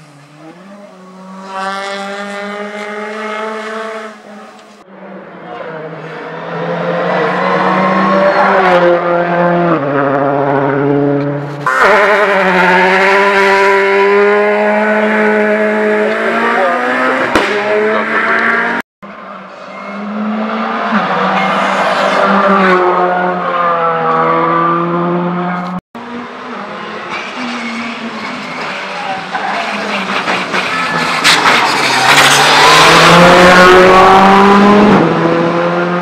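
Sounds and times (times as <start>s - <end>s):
rally car engine revving: 0.0s - 18.8s, 19.8s - 36.0s
rally cars approaching: 0.0s - 36.0s.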